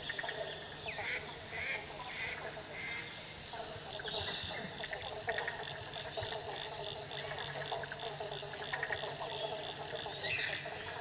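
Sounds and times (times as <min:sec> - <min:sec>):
frogs croaking: 0:00.0 - 0:11.0
high pulsing frog call: 0:00.0 - 0:11.0.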